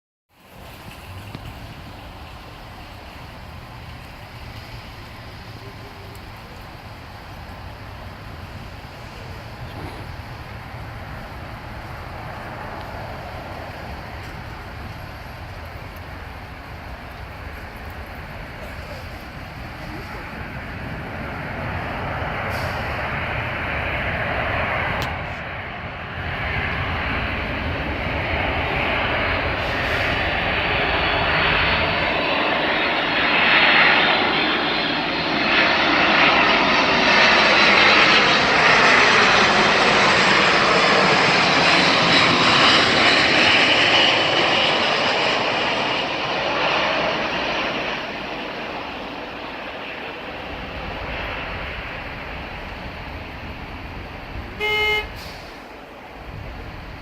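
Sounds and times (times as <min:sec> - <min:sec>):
jet engines roaring: 0:00.4 - 0:57.0
gliding jet whine: 0:00.6 - 0:57.0.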